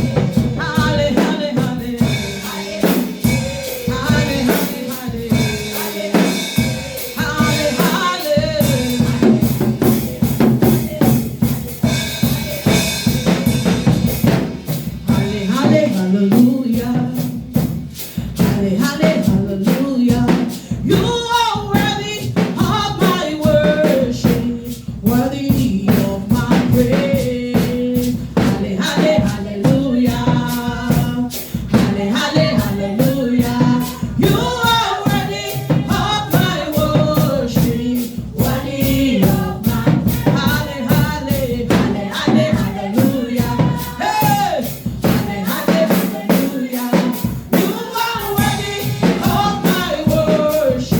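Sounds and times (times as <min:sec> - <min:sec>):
drums: 0:00.0 - 0:50.9
gospel singing: 0:00.0 - 0:50.9.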